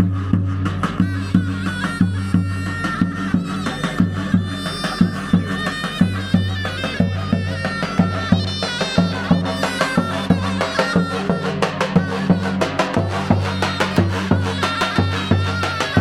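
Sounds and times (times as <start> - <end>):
drum strokes: 0.0 - 16.0
shrill reedy wind melody: 0.0 - 16.0.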